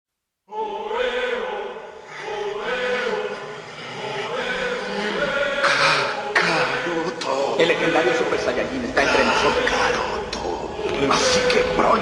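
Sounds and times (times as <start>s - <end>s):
choir chanting: 0.5s - 12.0s.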